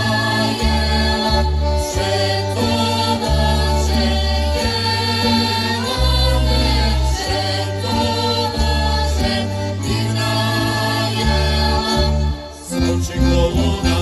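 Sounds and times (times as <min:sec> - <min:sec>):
choral singing: 0:00.0 - 0:14.0
instrumental backing: 0:00.0 - 0:14.0.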